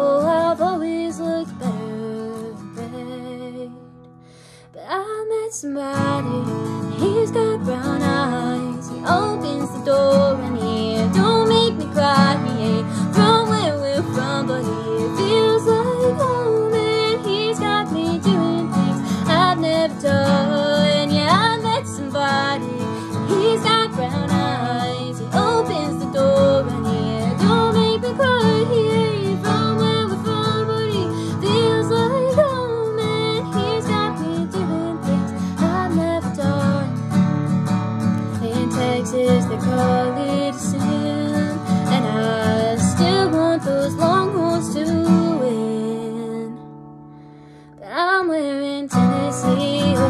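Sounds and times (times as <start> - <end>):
strummed acoustic guitar: 0.0 - 4.3, 5.8 - 50.0
woman singing country song: 0.0 - 50.0.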